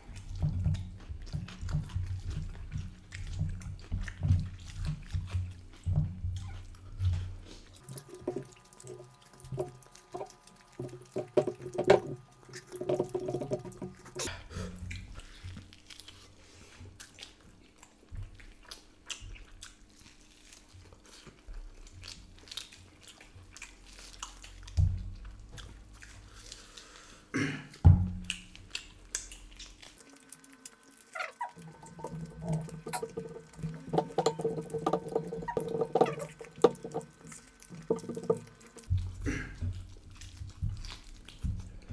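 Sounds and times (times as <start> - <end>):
chewing and lip smacking: 0.0 - 41.9.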